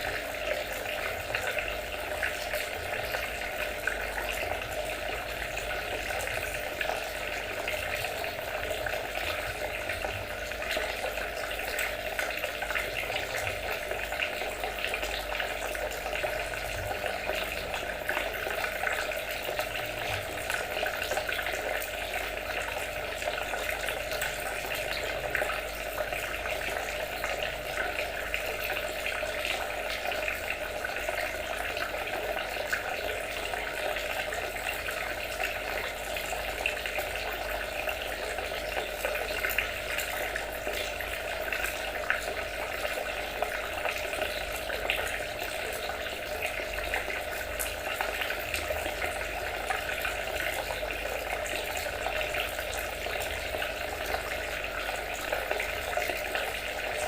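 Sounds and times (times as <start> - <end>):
water trickling and babbling: 0.0 - 57.0.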